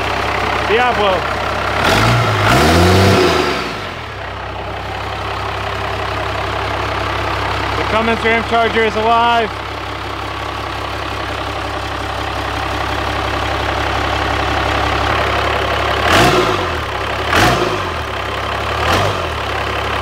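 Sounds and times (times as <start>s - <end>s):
diesel engine idling: 0.0s - 20.0s
diesel engine revving: 0.0s - 20.0s.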